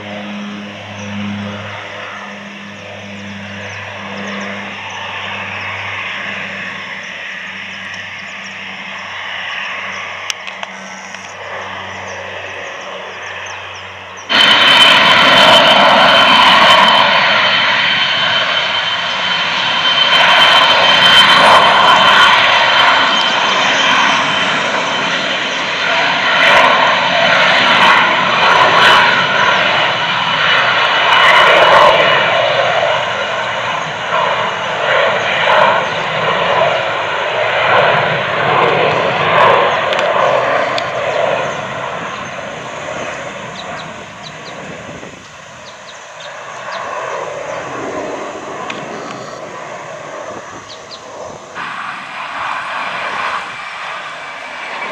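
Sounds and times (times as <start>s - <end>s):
jet engines roaring at takeoff: 0.0s - 54.9s.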